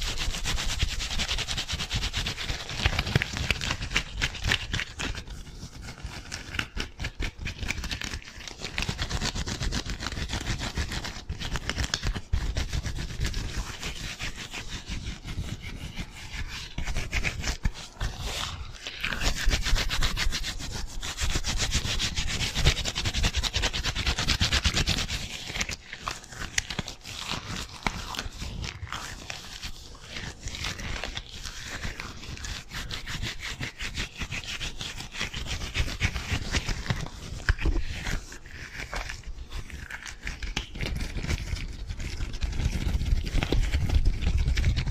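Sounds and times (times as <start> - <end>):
gloved hands rubbing: 0.0 - 44.9.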